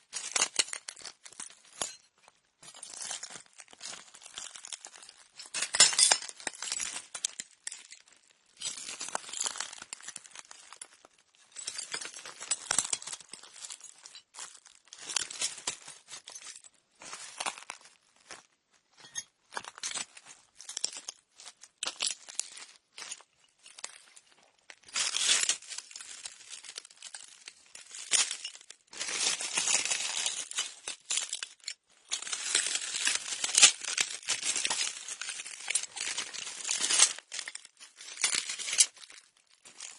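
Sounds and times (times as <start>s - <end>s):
footsteps crunching on broken glass: 0.1s - 39.9s.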